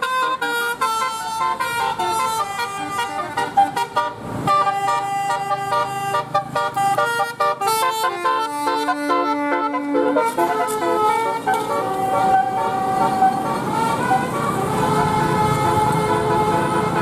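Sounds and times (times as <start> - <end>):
multi-tone bus air horns playing tune: 0.0 - 17.0.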